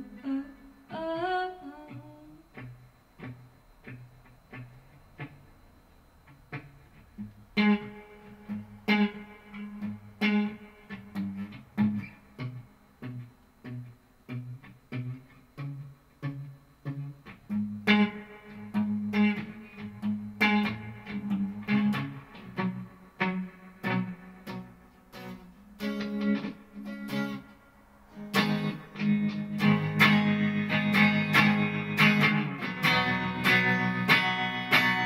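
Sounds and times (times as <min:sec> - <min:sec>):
electric guitar playing: 0:01.6 - 0:35.0.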